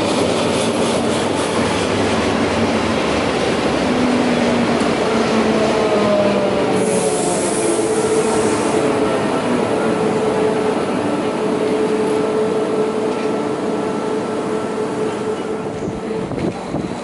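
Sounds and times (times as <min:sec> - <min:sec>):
train hum: 0:00.0 - 0:17.0
train wheels rumbling: 0:00.0 - 0:17.0.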